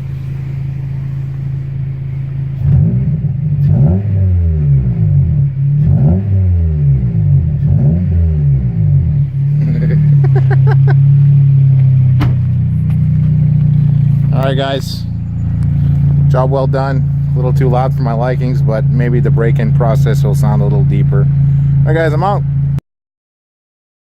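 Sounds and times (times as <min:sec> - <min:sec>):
car engine idling and revving: 0:00.0 - 0:22.8.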